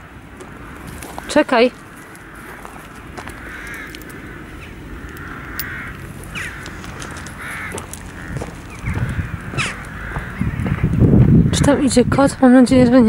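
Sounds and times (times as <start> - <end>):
footsteps on gravel: 0.4 - 11.5
crow cawing: 0.4 - 12.0.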